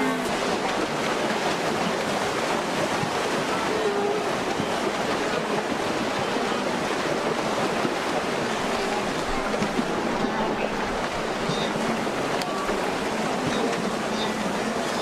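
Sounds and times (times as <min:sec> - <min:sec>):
animals splashing through river: 0:00.0 - 0:15.0.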